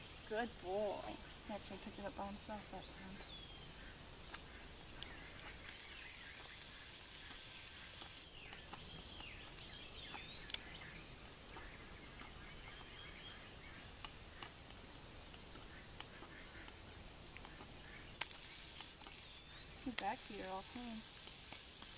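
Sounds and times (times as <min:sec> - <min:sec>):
steady high hiss: 0:00.0 - 0:21.9
faint bird chirps: 0:00.2 - 0:14.6, 0:15.5 - 0:21.1
hoof pick scraping hooves: 0:01.8 - 0:21.9.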